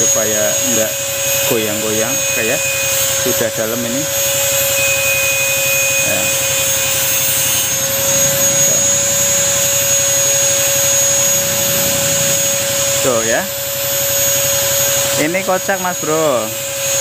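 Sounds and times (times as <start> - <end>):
machine droning whine: 0.0 - 17.0.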